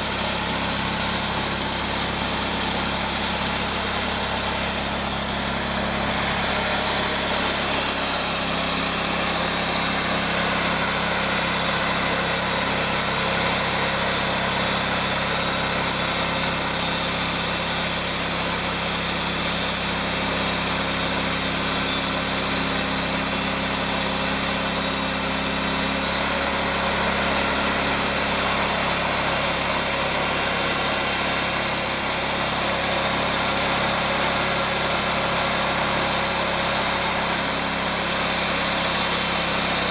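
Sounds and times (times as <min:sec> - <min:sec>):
band sawmill drone: 0:00.0 - 0:39.9.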